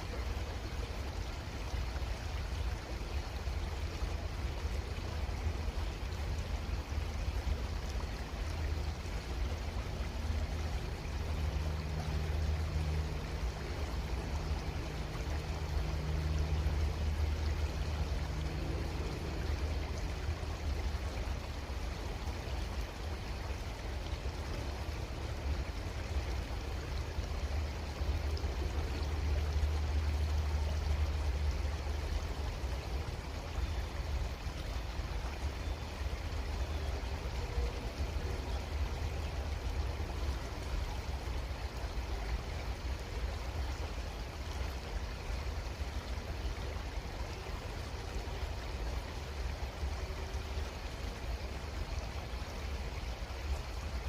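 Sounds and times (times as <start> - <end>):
creek water flowing: 0.0 - 54.0
faint steady hum: 0.0 - 54.0.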